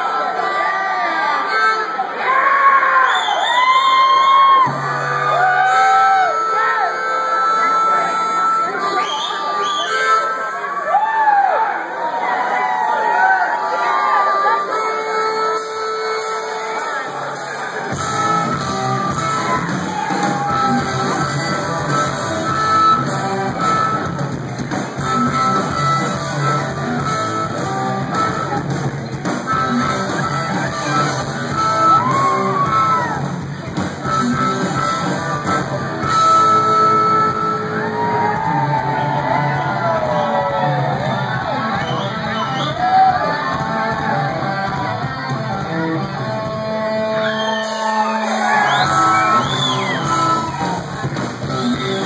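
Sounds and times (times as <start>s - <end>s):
harmonica wailing: 0.0s - 52.0s
rock band playing: 0.0s - 52.0s.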